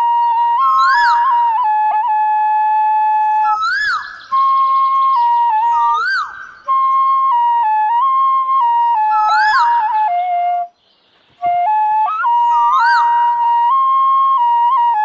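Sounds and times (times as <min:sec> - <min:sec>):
bamboo flute melody: 0:00.0 - 0:15.0.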